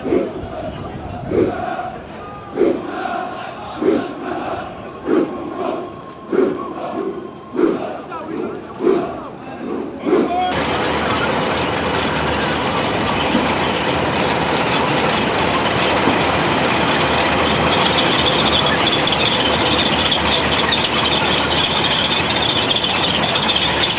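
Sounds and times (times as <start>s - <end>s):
armoured vehicle engines: 0.0s - 23.9s
steel tracks squealing: 0.5s - 23.9s.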